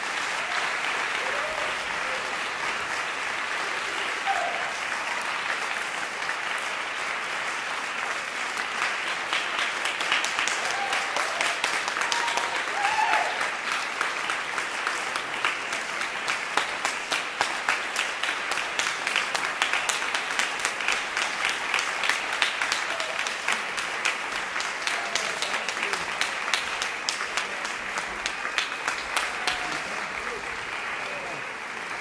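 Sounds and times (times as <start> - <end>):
audience applauding: 0.0 - 32.0.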